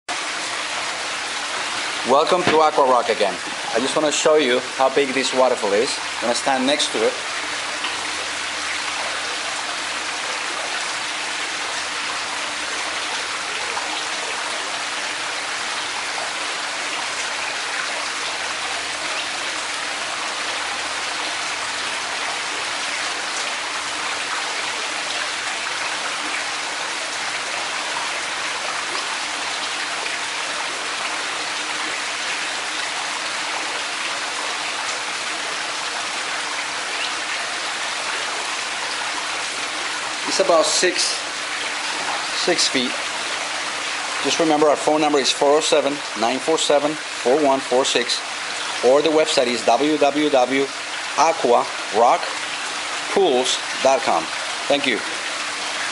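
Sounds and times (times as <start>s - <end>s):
waterfall splashing into pool: 0.1s - 55.9s.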